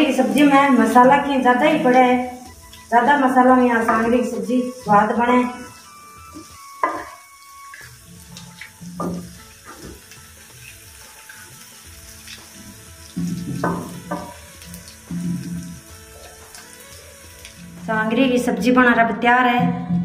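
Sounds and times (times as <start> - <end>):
faint sizzle: 0.0 - 18.8.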